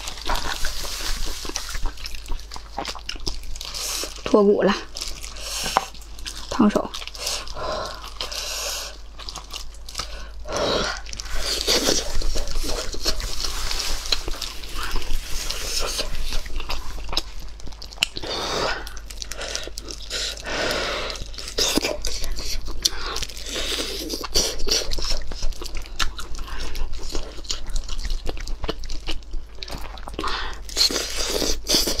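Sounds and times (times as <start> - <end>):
chewing with wet mouth clicks: 0.0 - 32.0.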